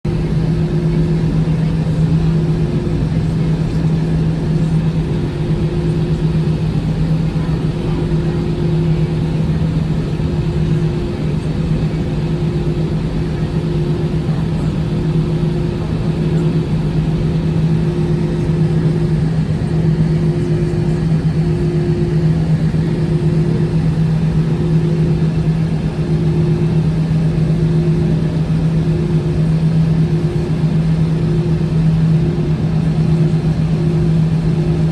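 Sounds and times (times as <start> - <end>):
airliner droning: 0.1 - 34.9.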